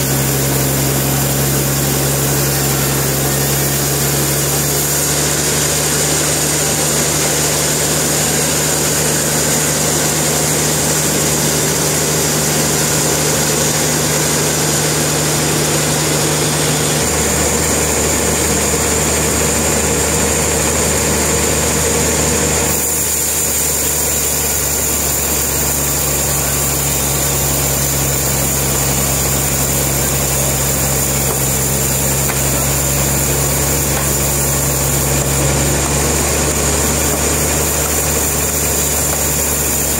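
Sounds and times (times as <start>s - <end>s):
sawmill engine hum: 0.0s - 39.9s.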